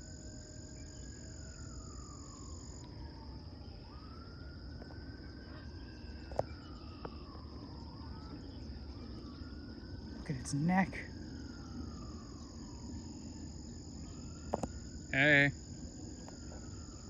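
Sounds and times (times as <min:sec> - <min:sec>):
distant siren wailing: 0:00.0 - 0:17.0
insects trilling: 0:00.0 - 0:17.0.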